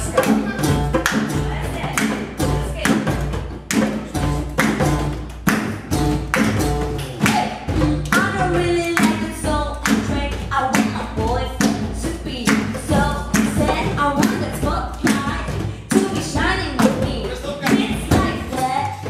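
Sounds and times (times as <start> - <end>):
djembe hand drums: 0.0 - 19.0.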